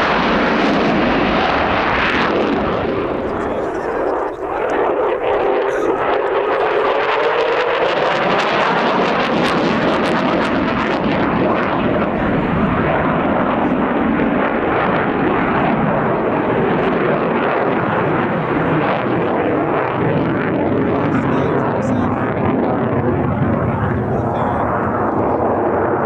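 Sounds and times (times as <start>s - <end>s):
aircraft engine rushing: 0.0s - 26.0s.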